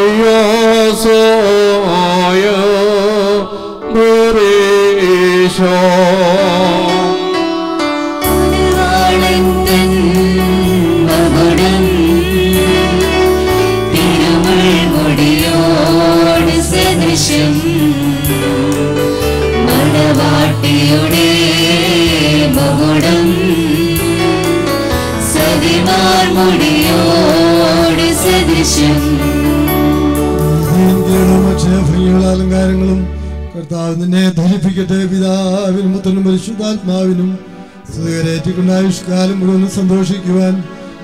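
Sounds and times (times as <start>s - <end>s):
hymn singing: 0.0s - 41.0s
instrumental accompaniment: 3.2s - 41.0s.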